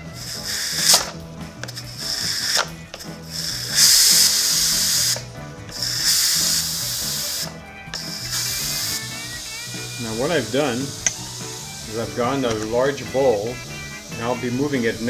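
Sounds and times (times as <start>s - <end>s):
pressure cooker steam valve hissing: 0.0s - 15.0s.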